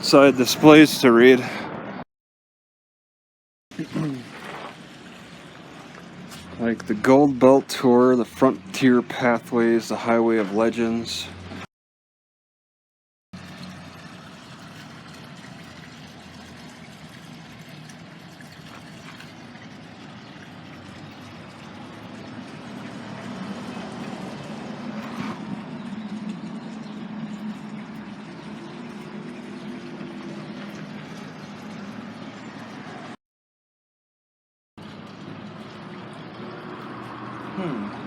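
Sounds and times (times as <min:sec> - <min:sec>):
vehicle engine hum: 0:03.8 - 0:11.7, 0:13.4 - 0:33.2, 0:34.8 - 0:38.0.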